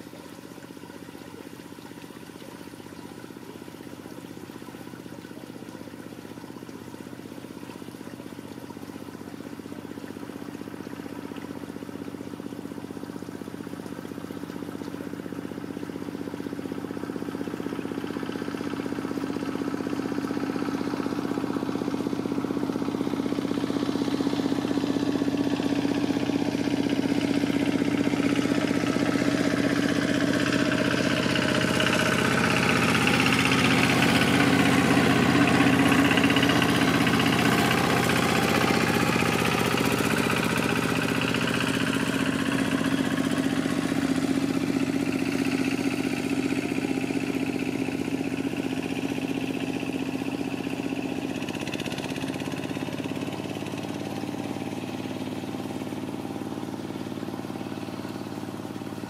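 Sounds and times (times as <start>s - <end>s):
motor engine humming: 0.0s - 59.0s.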